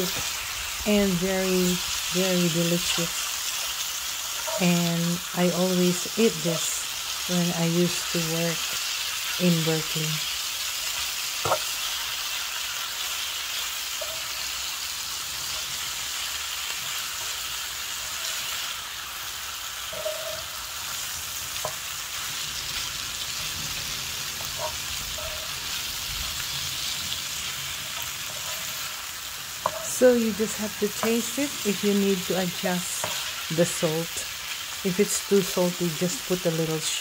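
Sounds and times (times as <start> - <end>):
stir-fry sizzling in a skillet: 0.0 - 37.0.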